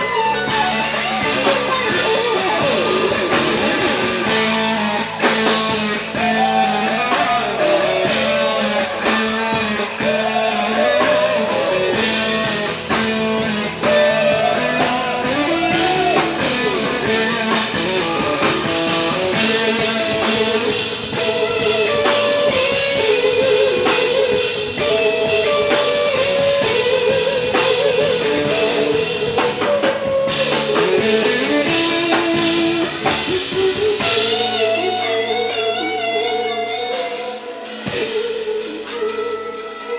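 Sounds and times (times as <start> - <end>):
bass guitar: 0.0 - 39.9
drums: 0.0 - 39.9
electric guitar lead: 0.0 - 39.9.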